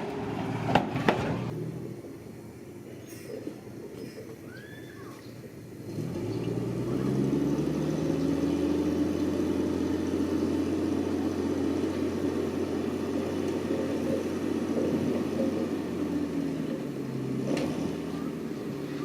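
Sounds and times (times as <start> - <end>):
diesel engine running: 0.0 - 4.0, 5.4 - 19.0.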